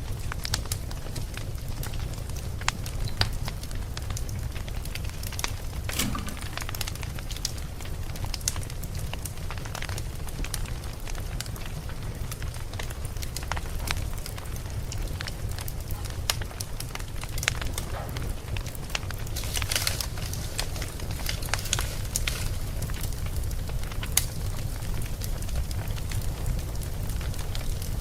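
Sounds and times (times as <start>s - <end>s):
low rumble of flames: 0.0s - 28.0s
campfire crackling and popping: 0.1s - 28.0s.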